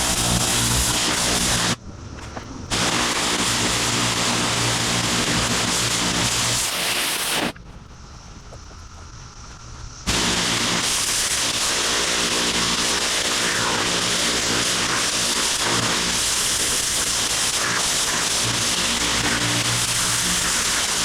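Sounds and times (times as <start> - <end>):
high-pressure water spray hissing: 0.0 - 1.8, 2.7 - 7.6, 9.8 - 21.0
pressure washer engine humming: 0.0 - 1.8, 2.7 - 7.6, 10.1 - 21.0.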